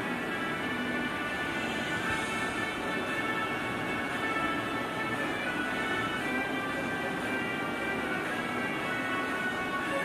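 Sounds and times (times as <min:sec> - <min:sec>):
music with long held tones: 0:00.0 - 0:10.0.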